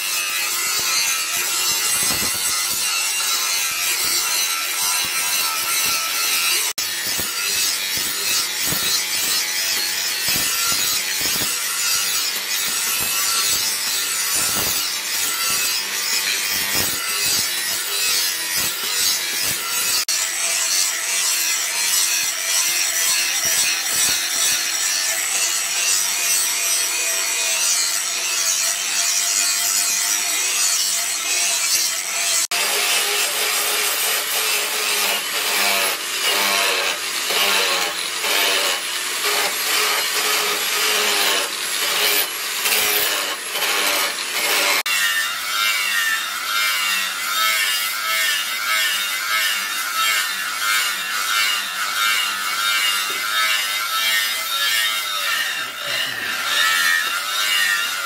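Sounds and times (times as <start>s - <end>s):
angle grinder grinding metal: 0.0s - 58.0s.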